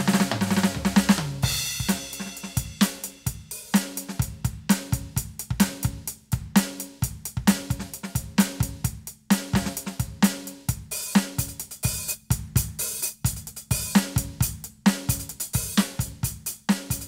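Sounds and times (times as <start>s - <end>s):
hi-hat and cymbals: 0.0s - 17.0s.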